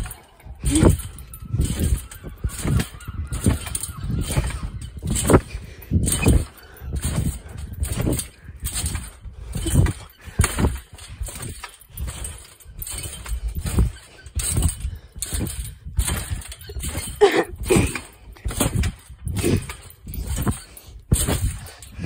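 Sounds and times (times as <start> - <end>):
trampoline mat thuds: 0.0 - 21.8.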